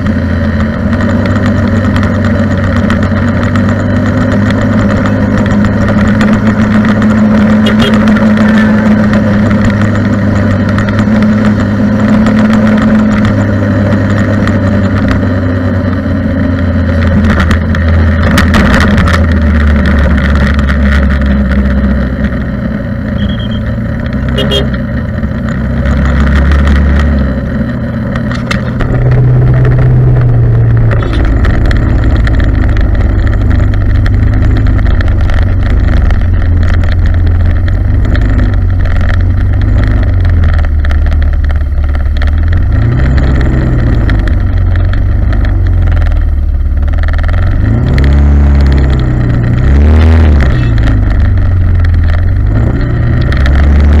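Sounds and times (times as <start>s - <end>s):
scooter engine humming: 0.0s - 49.6s.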